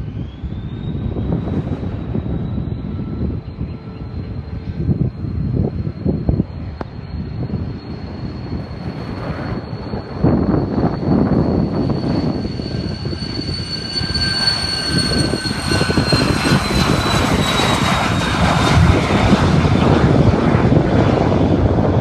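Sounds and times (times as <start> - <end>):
airliner engine rumble: 0.0 - 22.0
jet engine whine: 0.0 - 22.0.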